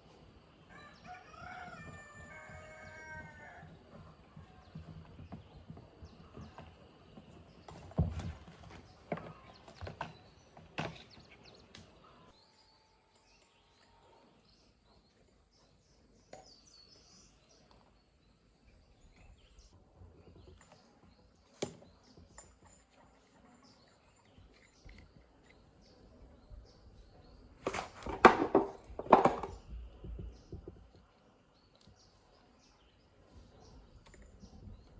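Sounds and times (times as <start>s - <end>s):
faint outdoor background: 0.0s - 34.9s.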